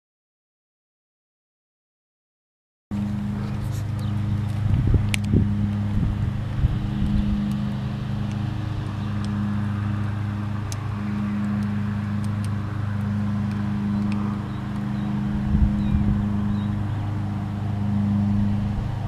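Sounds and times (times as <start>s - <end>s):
low motor hum: 2.9s - 19.0s.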